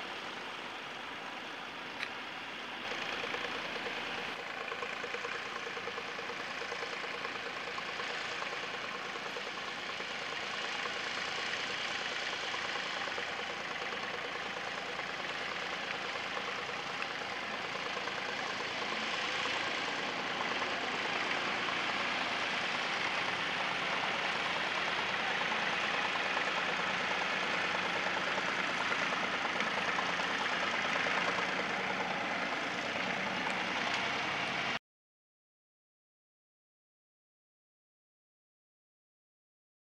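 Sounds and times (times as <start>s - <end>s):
tractor engine running steadily: 0.0s - 34.8s.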